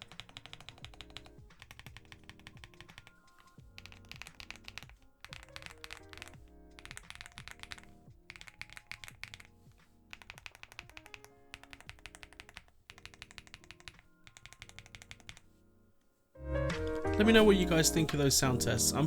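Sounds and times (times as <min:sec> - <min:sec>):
mechanical keyboard typing: 0:00.0 - 0:15.5
soft background music: 0:00.0 - 0:19.0.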